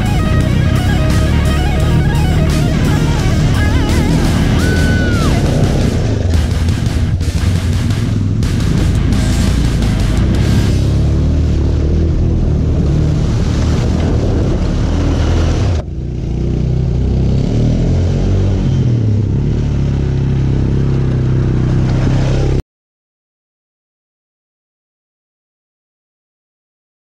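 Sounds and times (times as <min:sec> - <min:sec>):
atv engine revving: 0:00.0 - 0:22.6.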